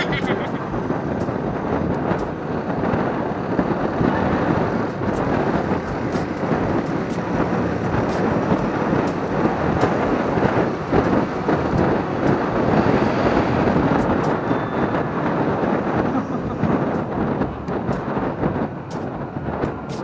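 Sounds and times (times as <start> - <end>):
motorcycle engine: 0.0 - 20.0
road noise: 0.0 - 20.0
wind buffeting microphone: 0.0 - 20.0.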